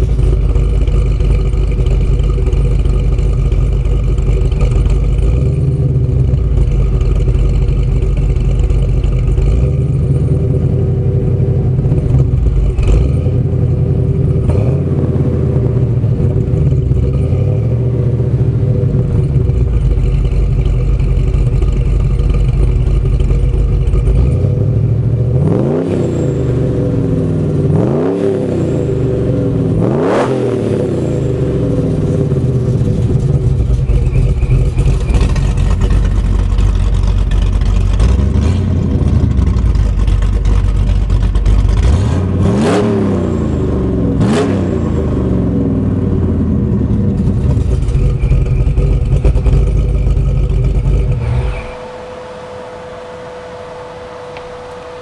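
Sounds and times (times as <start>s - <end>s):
engine idling with heavy lope: 0.0s - 55.0s
engine revving in throttle blips: 0.0s - 55.0s.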